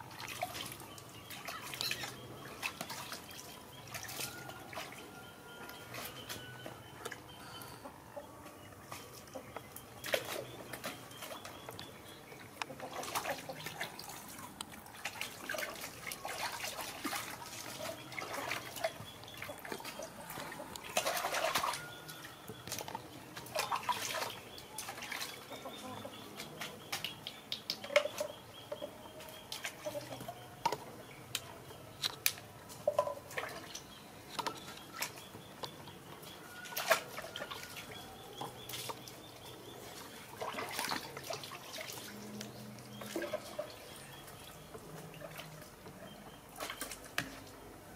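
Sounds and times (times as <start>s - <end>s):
water splashing in a plastic tub: 0.0s - 7.6s, 8.8s - 47.9s.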